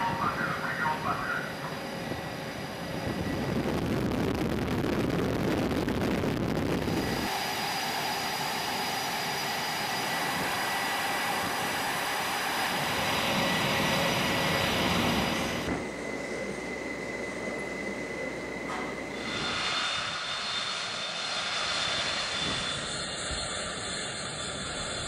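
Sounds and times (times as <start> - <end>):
high whine: 0.0 - 25.0
jet engines roaring: 0.0 - 25.0.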